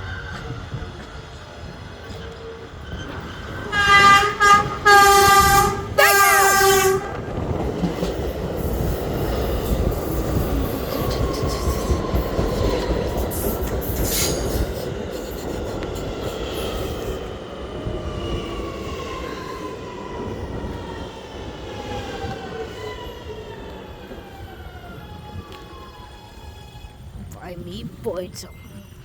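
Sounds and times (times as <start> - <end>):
subway train rumbling past: 0.0 - 29.0.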